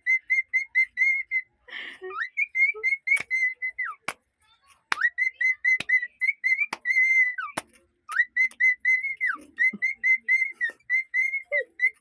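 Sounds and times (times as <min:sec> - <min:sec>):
cockatiel whistling a tune: 0:00.0 - 0:04.0, 0:04.9 - 0:12.0.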